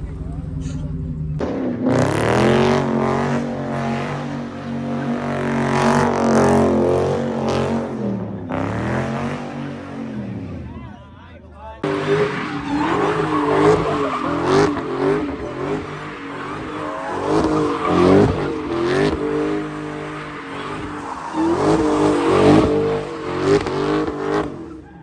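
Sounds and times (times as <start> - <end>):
car engine revving: 0.0 - 10.8, 11.8 - 25.0
tires squealing on pavement: 1.8 - 10.2, 11.8 - 25.0.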